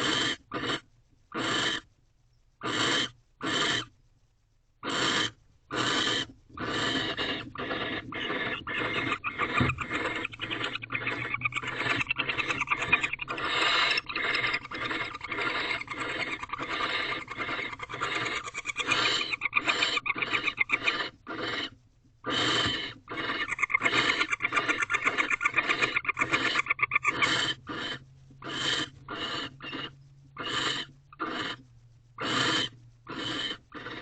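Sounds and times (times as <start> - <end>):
barn owl rasping hissing calls: 0.0 - 1.9, 2.6 - 3.9, 4.8 - 31.6, 32.2 - 34.0.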